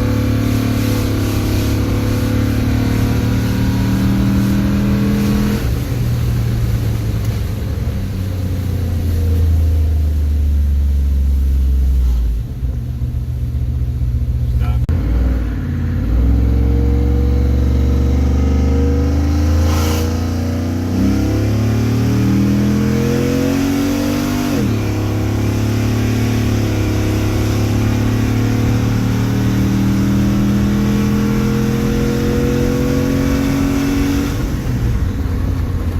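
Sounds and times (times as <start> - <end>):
truck engine accelerating hard: 0.0 - 35.9.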